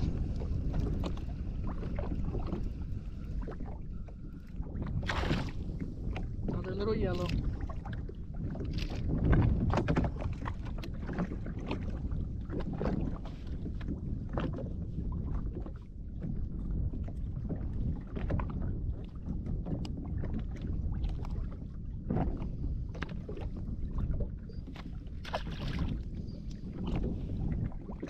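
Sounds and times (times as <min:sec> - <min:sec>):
low rumble of wind and water: 0:00.0 - 0:28.0.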